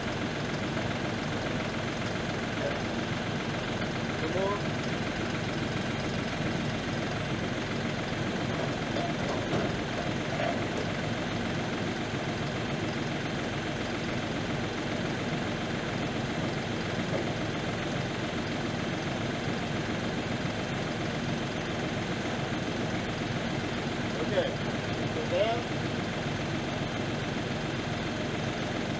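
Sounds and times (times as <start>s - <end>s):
tractor diesel engine idling: 0.0s - 28.9s.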